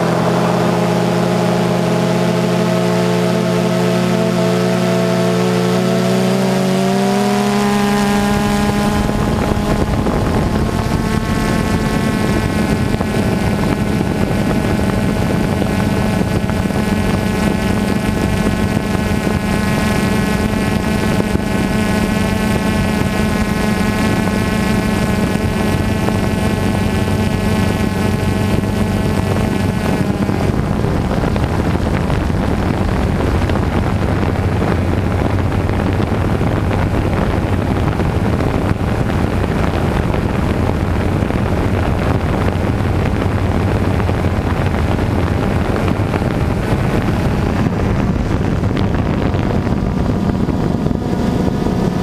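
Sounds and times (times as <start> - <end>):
drone propellers buzzing: 0.0 - 52.0
wind on microphone: 0.0 - 52.0.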